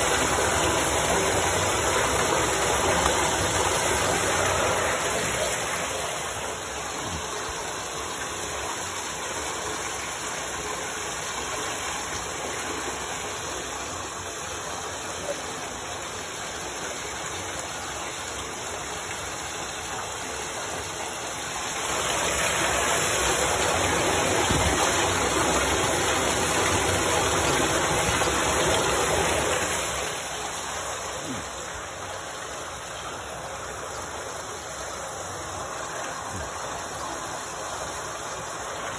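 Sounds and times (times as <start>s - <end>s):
wastewater rushing and splashing: 0.0s - 38.9s.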